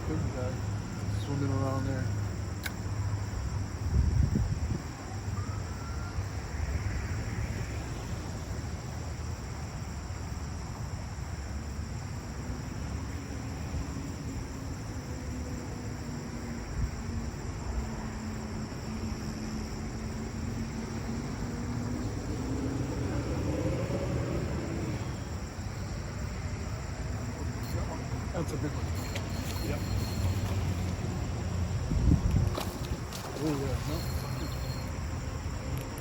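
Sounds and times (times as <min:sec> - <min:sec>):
faint steady hum: 0:00.0 - 0:36.0
high insect buzz: 0:06.0 - 0:36.0.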